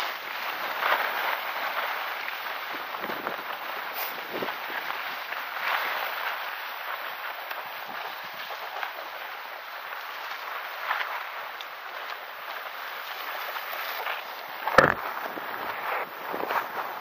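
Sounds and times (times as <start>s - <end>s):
skis sliding on snow: 0.0s - 17.0s.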